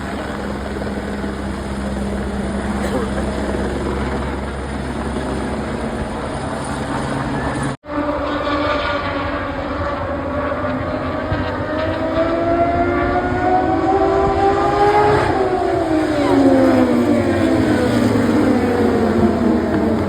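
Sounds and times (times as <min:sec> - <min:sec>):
rising engine whine: 0:00.0 - 0:20.0
vehicle humming: 0:00.0 - 0:20.0.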